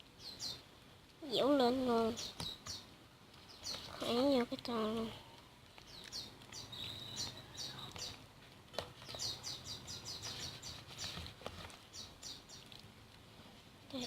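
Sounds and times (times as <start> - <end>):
small bird chirping: 0.1 - 12.8.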